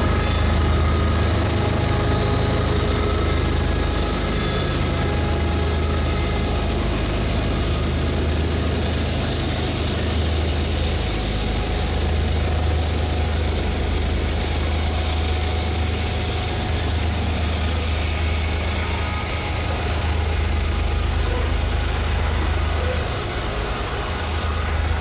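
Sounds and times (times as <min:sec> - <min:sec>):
diesel locomotive engines droning: 0:00.0 - 0:25.0.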